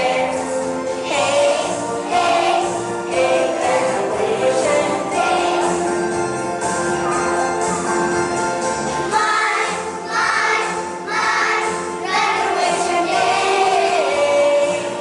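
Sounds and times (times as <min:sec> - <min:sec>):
young children singing: 0:00.0 - 0:06.1, 0:09.0 - 0:15.0
backing music: 0:00.0 - 0:15.0.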